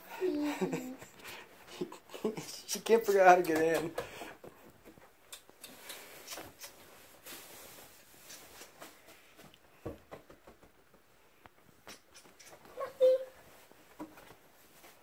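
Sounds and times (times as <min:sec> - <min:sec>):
faint rustles and taps: 0:02.7 - 0:15.0.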